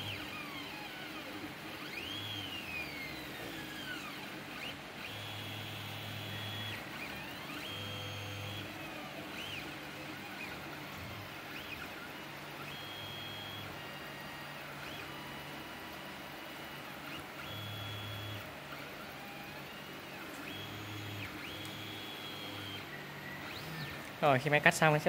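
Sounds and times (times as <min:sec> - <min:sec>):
stepper motors whining: 0:00.0 - 0:24.9.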